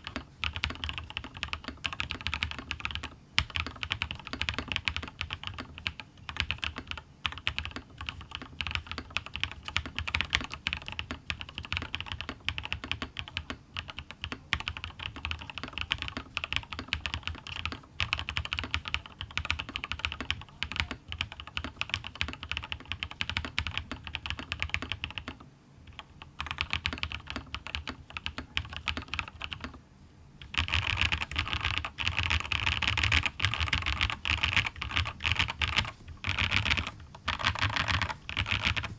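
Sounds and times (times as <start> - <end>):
fast typing on mechanical keyboard: 0.0 - 29.8, 30.4 - 38.9.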